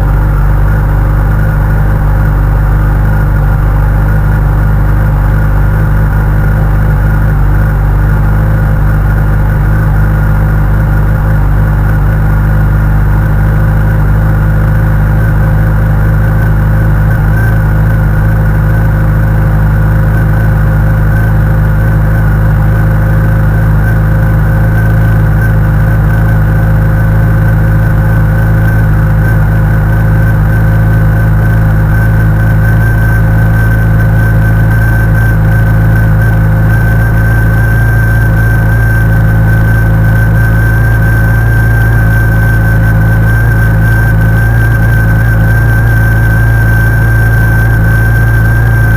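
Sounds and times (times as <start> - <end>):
motorcycle engine idling: 0.0 - 48.9.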